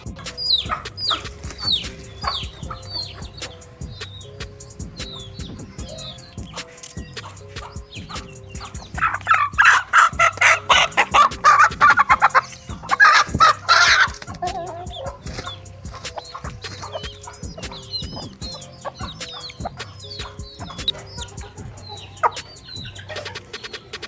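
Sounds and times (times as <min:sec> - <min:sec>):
background music: 0:00.0 - 0:24.0
chickens squawking and clucking: 0:00.0 - 0:24.0
chicks peeping: 0:00.0 - 0:24.0.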